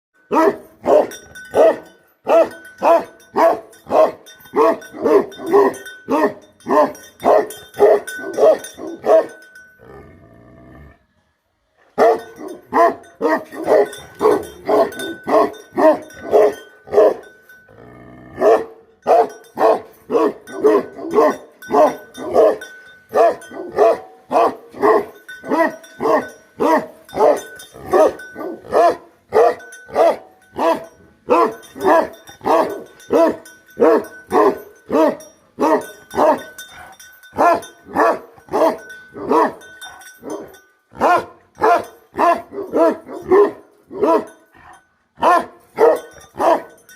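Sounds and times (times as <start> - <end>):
large dog barking: 0.2 - 10.1, 11.9 - 46.9.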